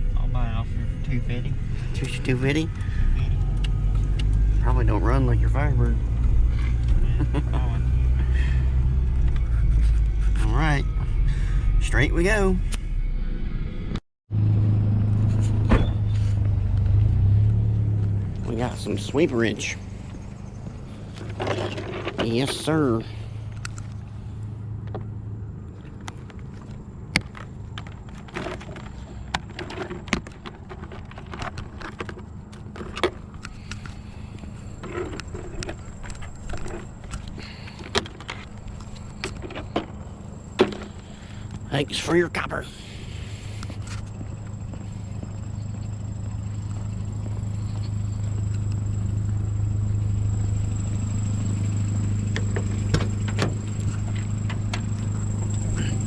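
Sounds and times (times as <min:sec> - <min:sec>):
vehicle engine idling: 0:00.0 - 0:13.2, 0:14.3 - 0:56.0.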